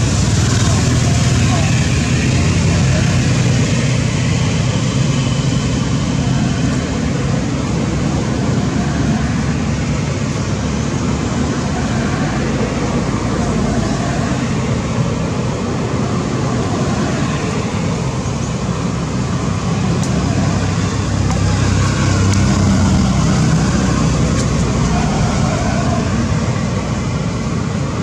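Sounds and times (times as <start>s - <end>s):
loud low rumbling: 0.0s - 28.0s.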